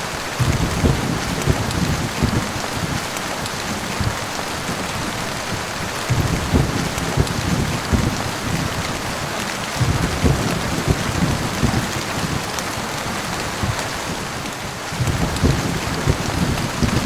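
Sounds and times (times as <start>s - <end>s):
heavy rain: 0.0s - 17.0s
low thunder rumbling: 0.0s - 17.0s.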